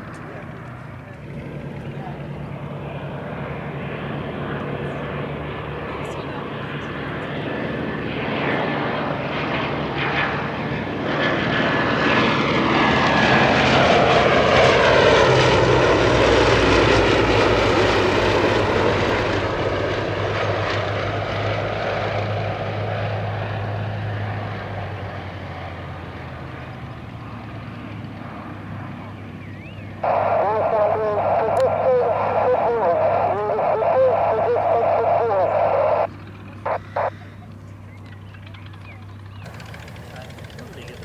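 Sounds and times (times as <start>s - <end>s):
propeller aircraft engines droning: 0.0s - 41.0s.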